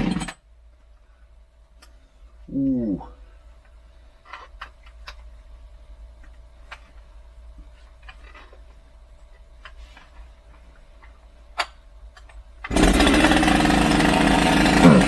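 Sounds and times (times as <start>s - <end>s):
faint steady hum: 0.4s - 12.7s.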